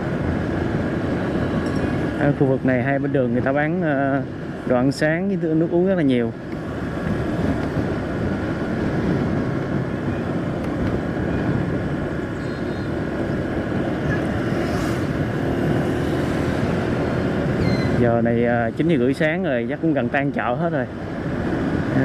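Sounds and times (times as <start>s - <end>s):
faint steady engine tone: 0.0s - 22.0s
vehicle engine and road noise: 0.0s - 22.0s.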